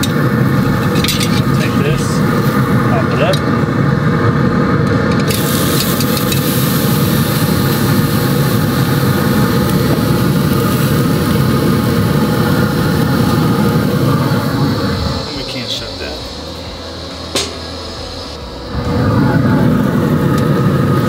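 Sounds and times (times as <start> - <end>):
low grill rumble: 0.0 - 21.0
steak sizzling on grill: 0.0 - 21.0.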